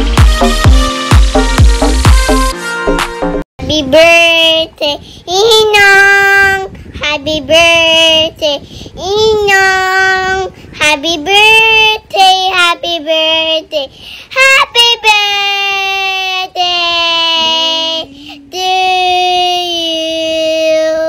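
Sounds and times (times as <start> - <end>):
girl singing: 3.6 - 21.0.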